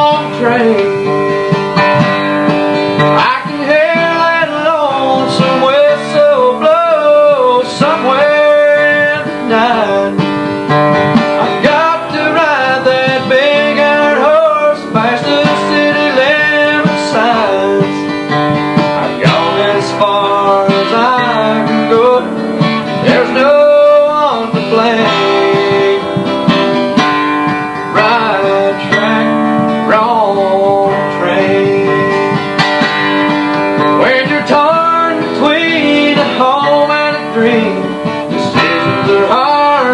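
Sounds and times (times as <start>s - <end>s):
man singing country song: 0.0s - 39.9s
strummed acoustic guitar: 0.0s - 39.9s.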